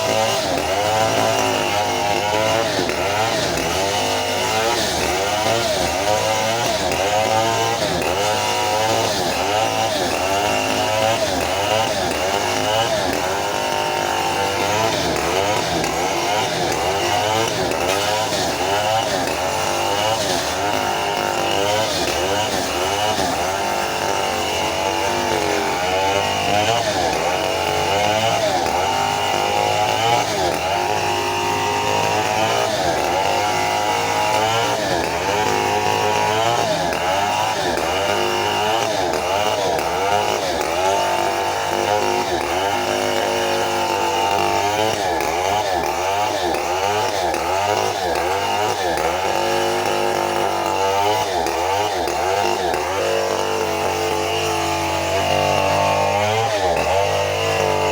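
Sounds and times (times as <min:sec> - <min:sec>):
chainsaw cutting through log: 0:00.0 - 0:57.9.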